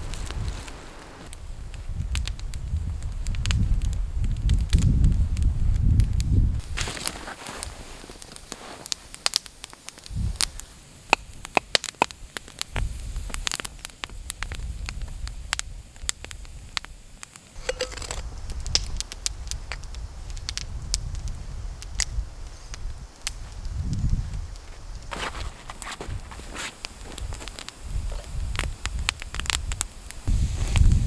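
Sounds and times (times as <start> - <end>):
campfire crackling: 0.0 - 31.0
sharp pops and snaps: 5.8 - 30.9.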